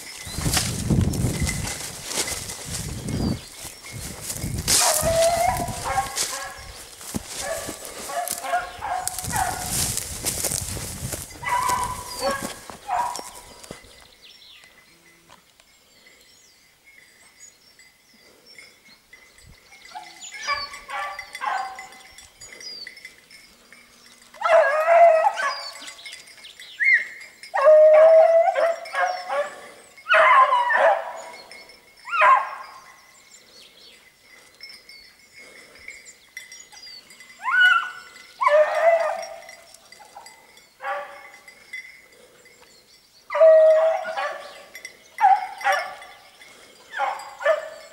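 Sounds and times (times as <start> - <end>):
hounds baying: 0.0 - 13.9, 19.7 - 47.9.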